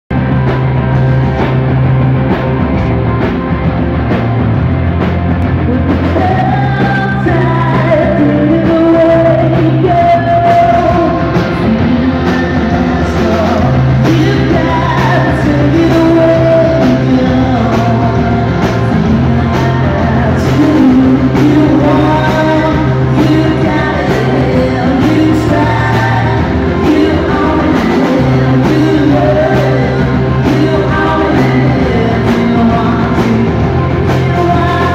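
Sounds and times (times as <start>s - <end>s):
rock band playing: 0.1s - 34.9s
man singing: 5.7s - 34.9s.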